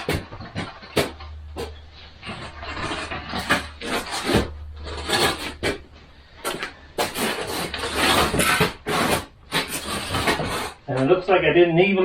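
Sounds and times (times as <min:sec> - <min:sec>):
wire scraping against wood: 0:00.0 - 0:11.2.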